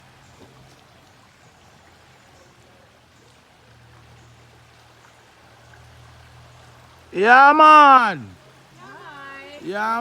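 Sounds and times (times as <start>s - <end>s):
river water trickling: 0.0s - 10.0s.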